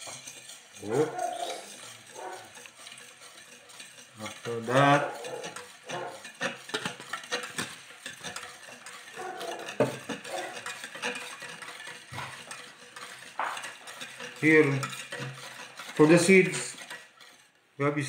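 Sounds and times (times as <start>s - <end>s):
whisk clicking against metal: 0.0s - 17.6s
whisk stirring in metal bowl: 0.0s - 18.0s.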